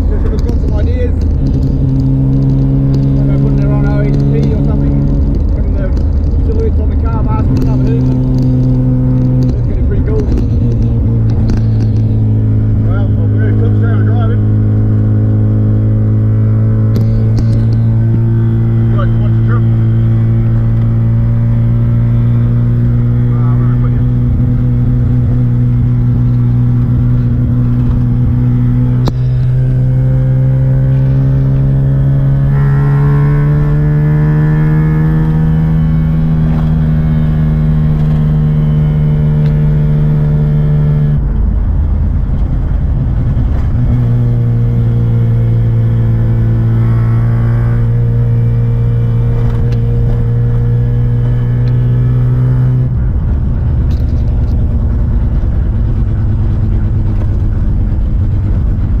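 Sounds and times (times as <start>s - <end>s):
van engine accelerating: 0.0s - 59.0s.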